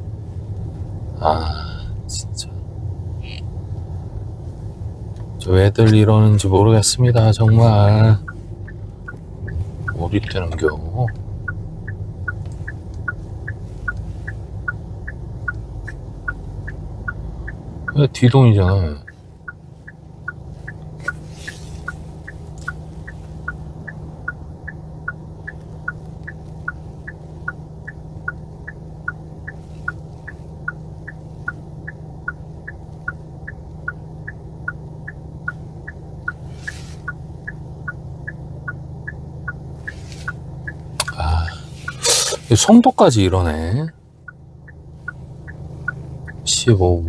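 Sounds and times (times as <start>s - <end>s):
car engine idling hum: 0.0s - 47.0s
car indicator ticking: 0.0s - 47.0s.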